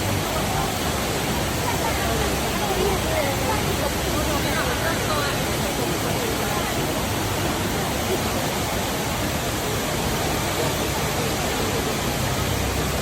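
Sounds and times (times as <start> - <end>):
waterfall pouring: 0.0 - 13.0.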